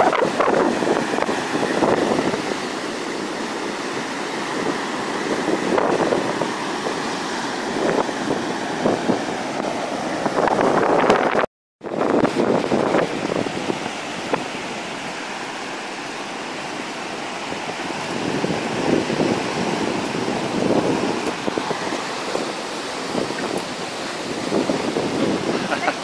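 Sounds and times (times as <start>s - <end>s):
surf washing up a beach: 0.0s - 26.0s
wind buffeting microphone: 0.0s - 26.0s.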